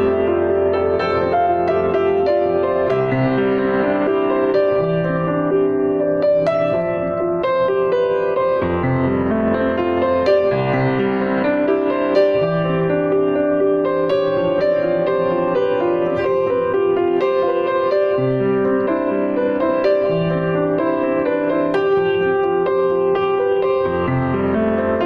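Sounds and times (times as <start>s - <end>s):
slow piano music: 0.0s - 25.0s.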